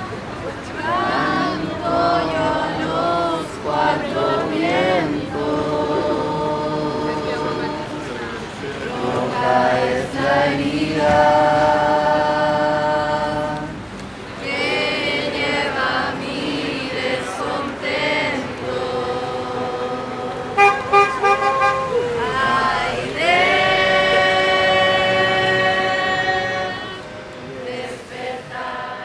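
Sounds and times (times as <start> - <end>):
choir singing sustained chords: 0.6 - 29.0.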